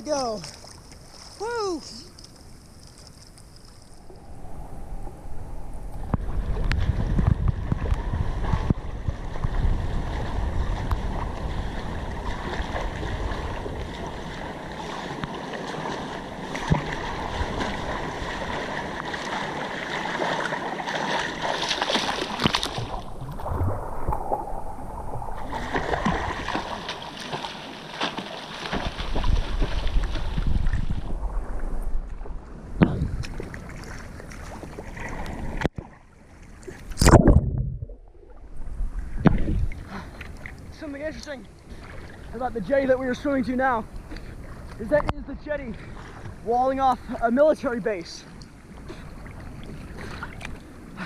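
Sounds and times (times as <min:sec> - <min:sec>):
water splashing and sloshing: 0:00.0 - 0:51.0
wind rumbling on microphone: 0:01.4 - 0:27.2, 0:28.6 - 0:35.9, 0:36.6 - 0:47.2.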